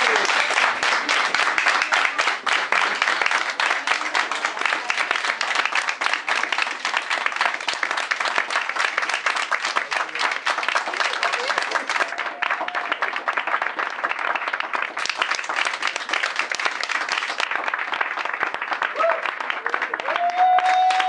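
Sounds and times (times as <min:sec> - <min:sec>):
people applauding: 0:00.0 - 0:21.0.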